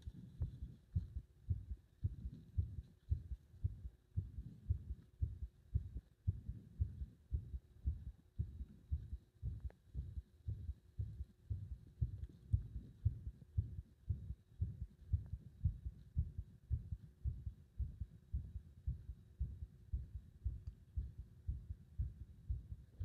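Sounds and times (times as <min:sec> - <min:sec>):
heart beating: 0:00.0 - 0:23.0.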